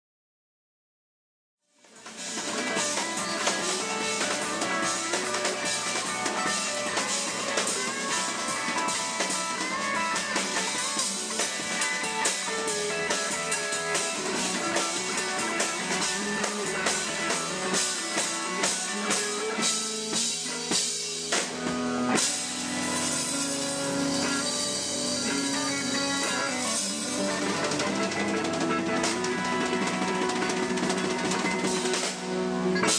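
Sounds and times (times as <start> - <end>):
live band playing: 1.8 - 32.9
drum strikes: 2.0 - 32.9.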